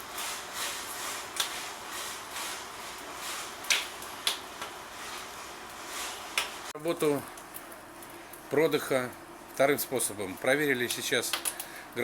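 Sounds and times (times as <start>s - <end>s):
fire crackles and pops: 0.0s - 11.9s
fire hissing in fireplace: 0.0s - 12.0s.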